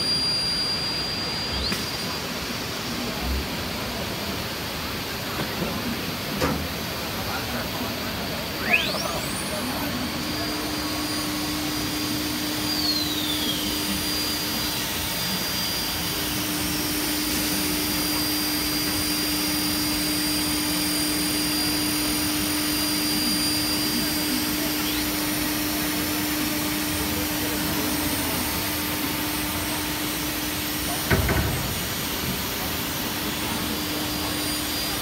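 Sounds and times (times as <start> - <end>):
high whine: 0.0 - 35.0
machine drone with low hum: 0.0 - 35.0.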